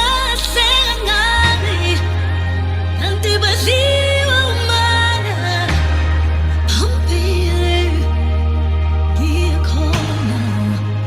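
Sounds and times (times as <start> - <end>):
slow soft music: 0.0 - 11.0.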